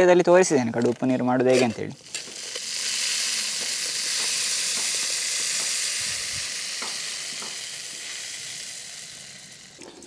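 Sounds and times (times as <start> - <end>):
seeds pouring into grinder jar: 0.0 - 10.0.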